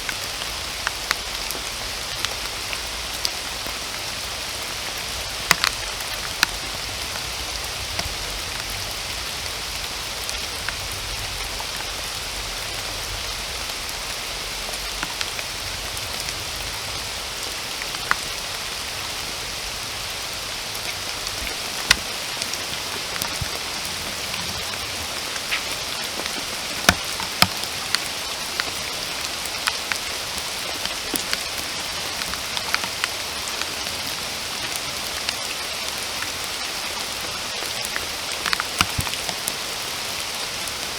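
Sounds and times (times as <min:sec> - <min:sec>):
raindrops ticking close by: 0:00.0 - 0:40.9
steady rain hiss: 0:00.0 - 0:40.9.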